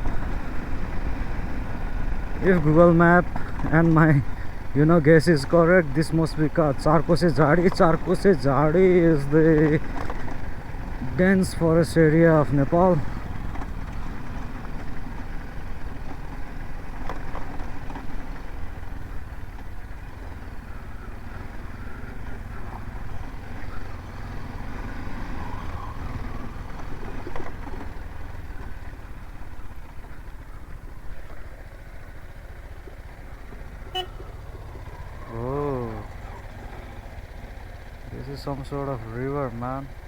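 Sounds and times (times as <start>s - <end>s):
motorcycle engine running: 0.0s - 40.0s
wind and road noise: 0.0s - 40.0s.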